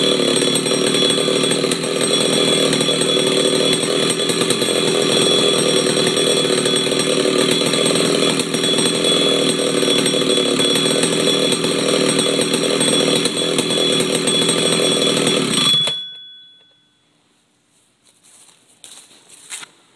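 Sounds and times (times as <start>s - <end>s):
chainsaw running: 0.0s - 16.9s.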